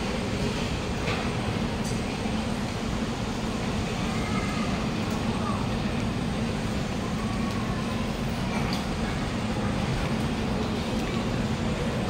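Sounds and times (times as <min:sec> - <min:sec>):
faint passenger voices: 0:00.0 - 0:12.0
low hum of station machinery: 0:00.0 - 0:12.0.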